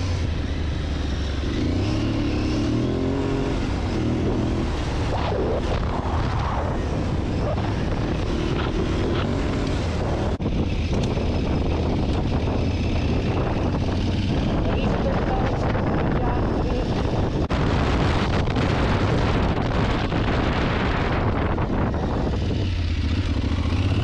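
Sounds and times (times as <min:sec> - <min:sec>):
motorcycle engine running: 0:00.0 - 0:24.0
wind and tyre hiss: 0:00.0 - 0:24.0.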